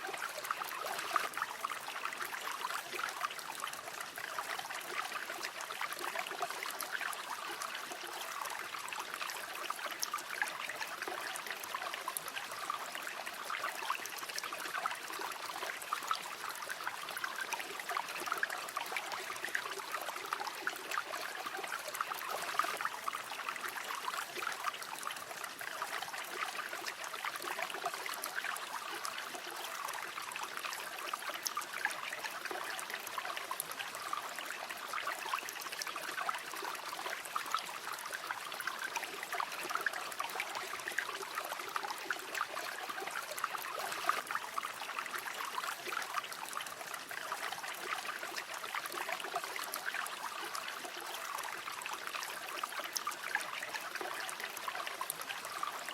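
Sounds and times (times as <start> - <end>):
stream running and bubbling: 0.0 - 55.9.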